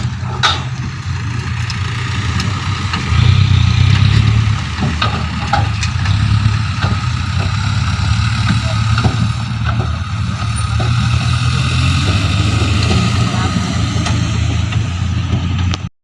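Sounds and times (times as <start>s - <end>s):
diesel truck engine running: 0.0s - 15.9s.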